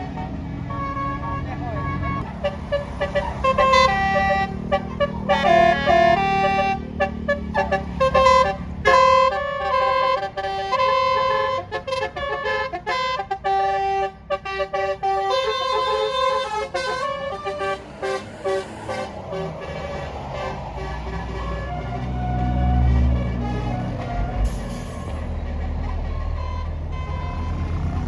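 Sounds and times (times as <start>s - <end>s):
low engine rumble: 0.0s - 28.0s
musical air horn playing a tune: 2.1s - 28.0s.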